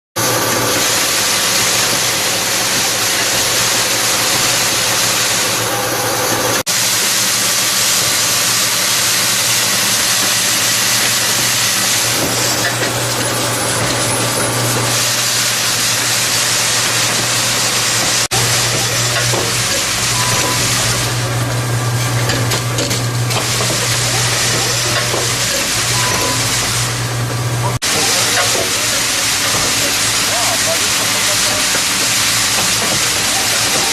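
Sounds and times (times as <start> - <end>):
machine hissing with low hum: 0.2 - 33.9.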